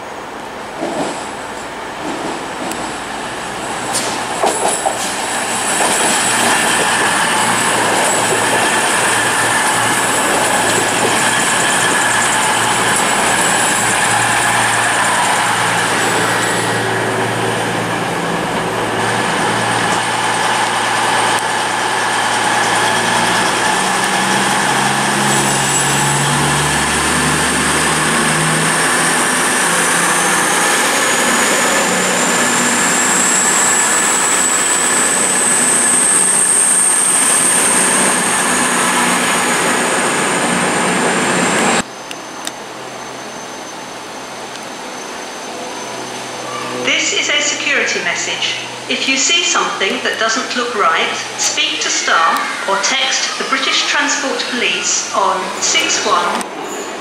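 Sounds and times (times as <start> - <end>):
diesel train running: 0.0 - 57.0.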